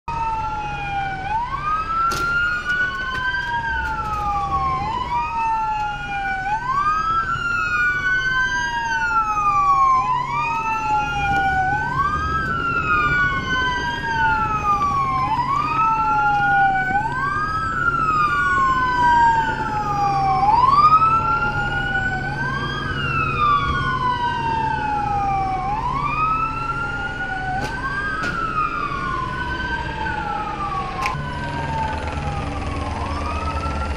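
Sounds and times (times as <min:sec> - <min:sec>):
police siren wailing: 0:00.0 - 0:33.9.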